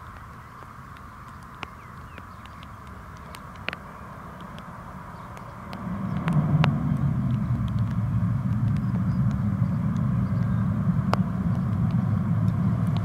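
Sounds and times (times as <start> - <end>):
turboprop engines droning: 1.3 - 13.0.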